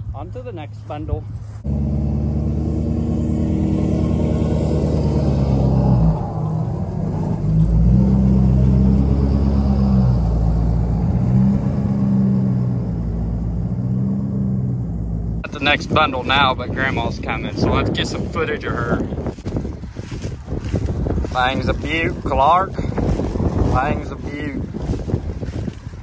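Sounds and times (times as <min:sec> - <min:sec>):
vehicle engine running under load: 0:00.0 - 0:26.0.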